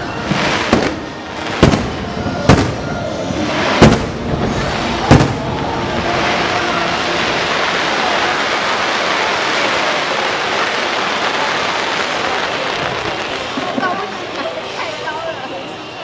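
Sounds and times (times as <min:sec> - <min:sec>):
fireworks bangs: 0:00.0 - 0:14.8
steady wash of noise: 0:00.0 - 0:16.0.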